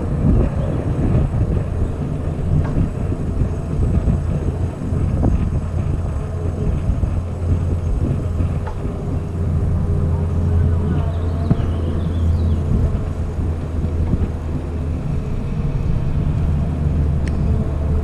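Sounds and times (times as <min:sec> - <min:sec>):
low rumble: 0:00.0 - 0:18.0
wind rushing over microphone: 0:00.0 - 0:18.0.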